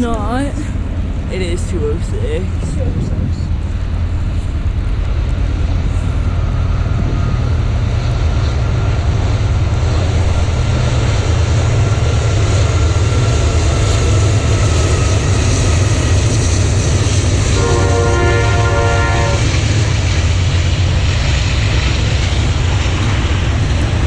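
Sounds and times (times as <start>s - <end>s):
diesel locomotive engines rumbling: 0.0s - 24.0s.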